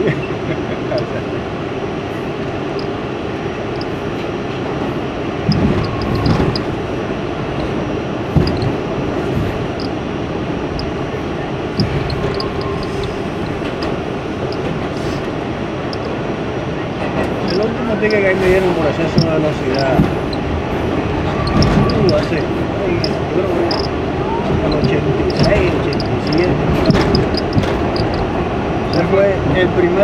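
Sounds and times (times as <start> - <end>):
subway wheels rumbling on rail: 0.0 - 30.0
train knocks and jolts: 3.7 - 16.2, 16.9 - 29.1.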